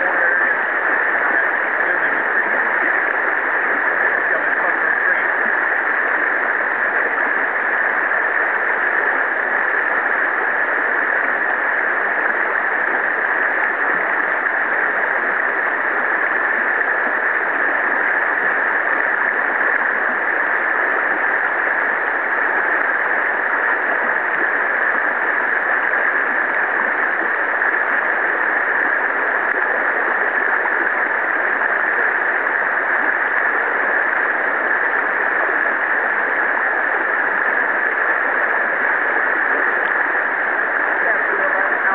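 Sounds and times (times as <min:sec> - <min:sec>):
shallow river water running: 0:00.0 - 0:41.9.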